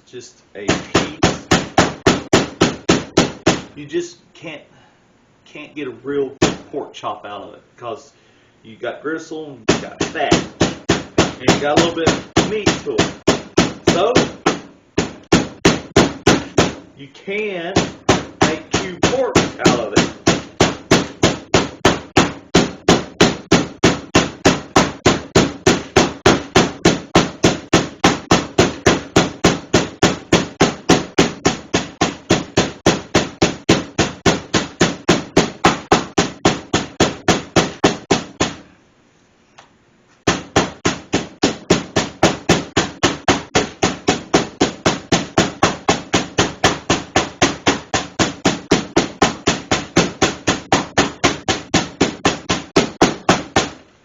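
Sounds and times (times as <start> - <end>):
meat mallet pounding meat: 0.6 - 3.8, 6.4 - 6.7, 9.7 - 16.9, 17.5 - 38.7, 40.3 - 53.8.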